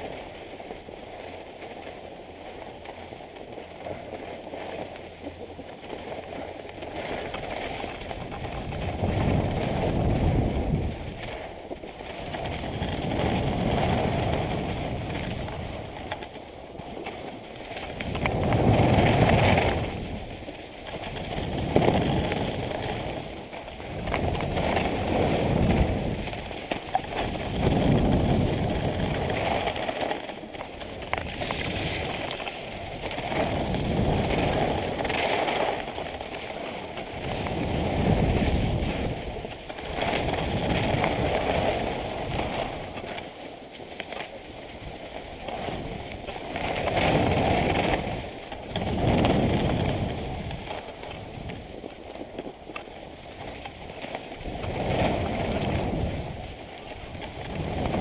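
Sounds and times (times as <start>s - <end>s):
skis scraping on snow: 0.0s - 58.0s
wind rushing over microphone: 6.2s - 43.4s, 44.6s - 58.0s.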